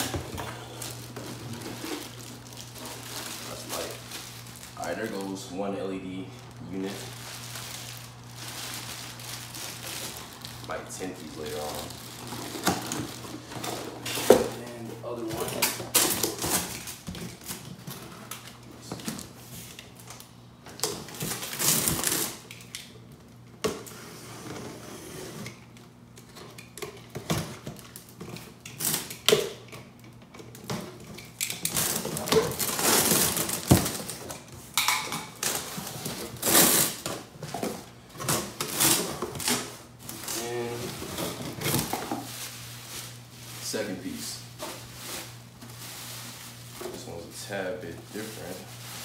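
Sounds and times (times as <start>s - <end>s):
bubble wrap rustling: 0.0s - 22.9s, 30.5s - 49.0s.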